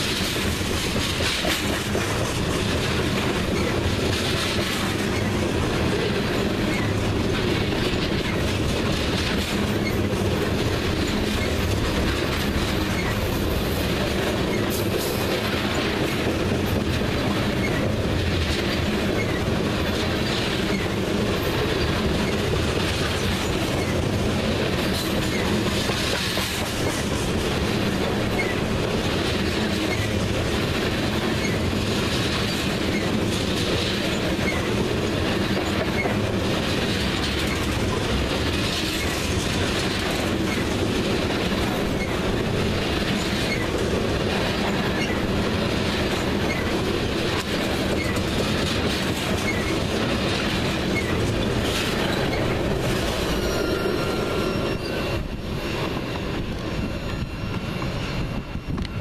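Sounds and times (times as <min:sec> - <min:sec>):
wheels clicking over rail joints: 0:00.0 - 0:53.4
train wheels rumbling on rail: 0:00.0 - 0:59.0.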